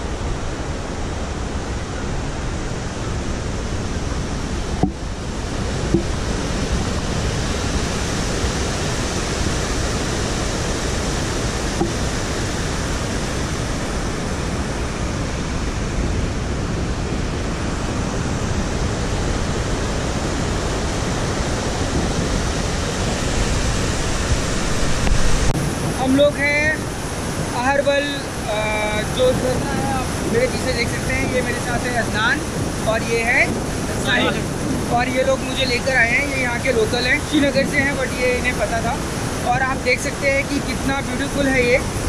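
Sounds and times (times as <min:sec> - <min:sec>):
waterfall and river rapids rushing: 0:00.0 - 0:42.0.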